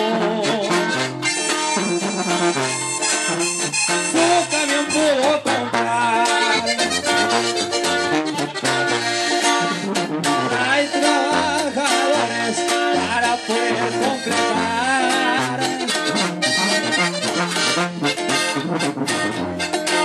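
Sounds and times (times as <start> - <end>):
accordion melody: 0.0 - 20.0
strummed acoustic guitar: 0.0 - 20.0
tuba bass line: 0.0 - 20.0.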